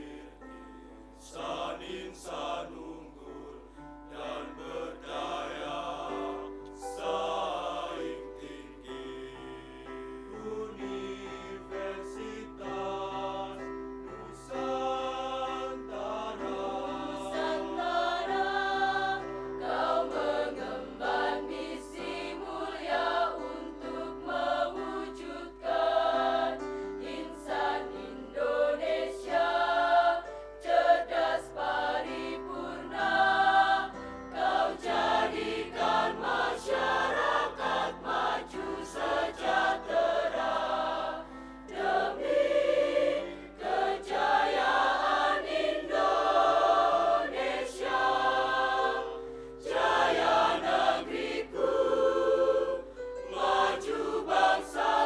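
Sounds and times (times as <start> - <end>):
mixed choir singing a hymn: 0.0 - 55.0.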